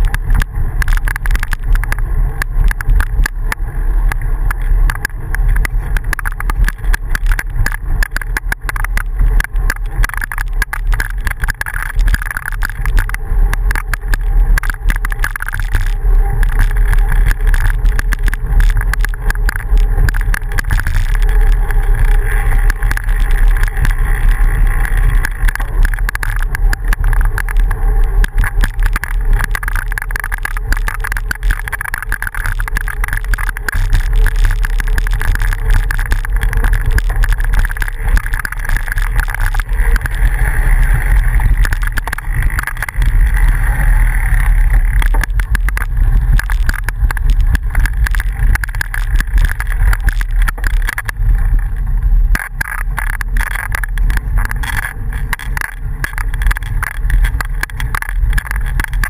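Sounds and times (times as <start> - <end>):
bicycle tyres rumbling on dirt: 0.0 - 59.0
wind on microphone: 0.0 - 59.0.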